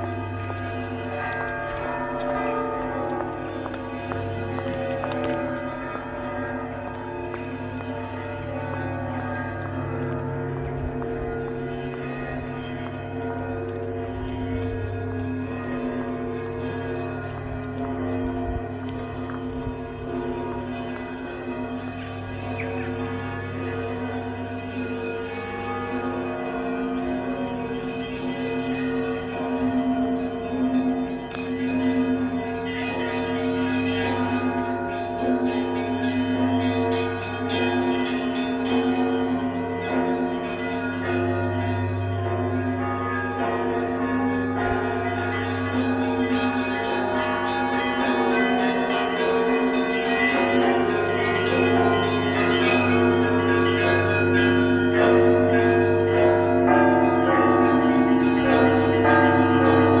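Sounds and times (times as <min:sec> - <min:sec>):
church bells ringing: 0:00.0 - 1:00.0.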